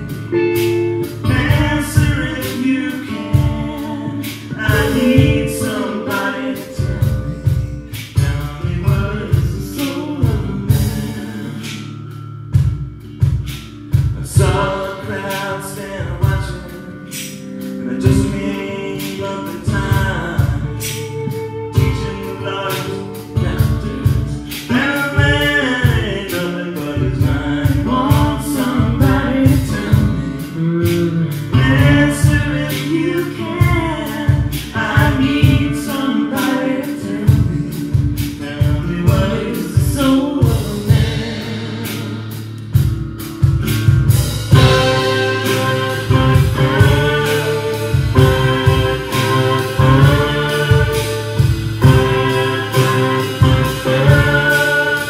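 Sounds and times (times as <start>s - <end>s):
person singing: 0.0s - 12.1s, 14.0s - 42.8s, 44.4s - 55.0s
acoustic guitar: 0.0s - 55.0s
bass: 0.0s - 55.0s
drum kit beat: 0.0s - 55.0s.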